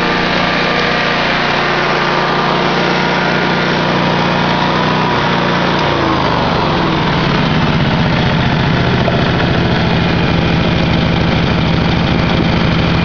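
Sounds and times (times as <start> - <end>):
generator engine idling: 0.0 - 13.0.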